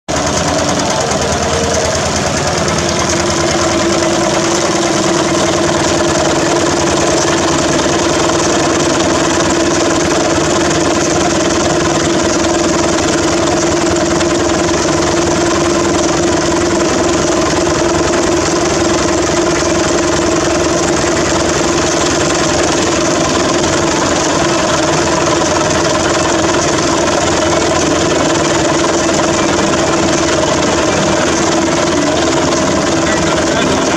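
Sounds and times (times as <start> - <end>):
engine humming: 0.1 - 33.9
fast even ticking: 0.1 - 33.9.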